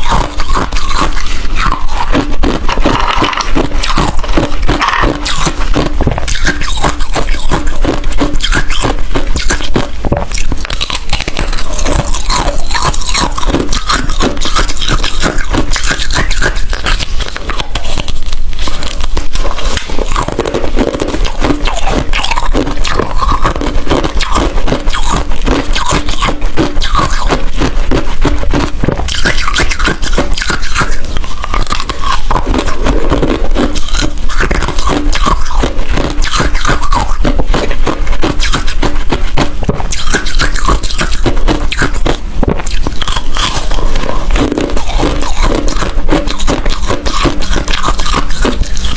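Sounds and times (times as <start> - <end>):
person crunching ice: 0.0 - 48.9.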